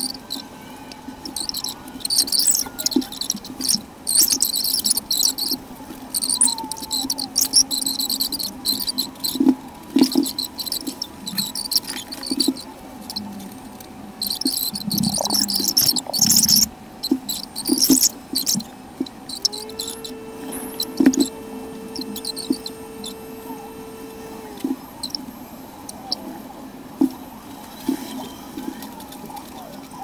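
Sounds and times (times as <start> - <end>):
steady humming tone: 0.0 - 30.0.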